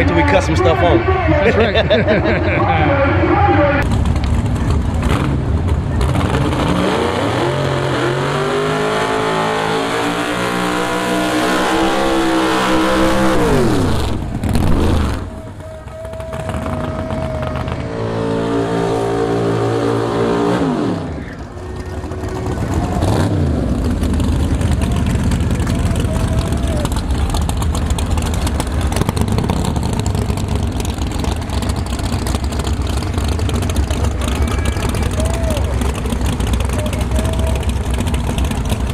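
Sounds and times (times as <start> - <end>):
racing car engine revving: 3.8 - 38.9.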